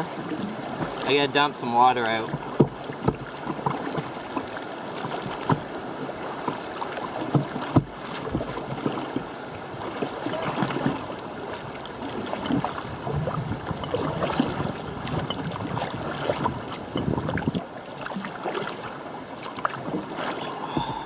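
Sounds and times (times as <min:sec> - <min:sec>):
river water rushing over rapids: 0:00.0 - 0:21.0
short splashes and knocks: 0:00.0 - 0:21.0.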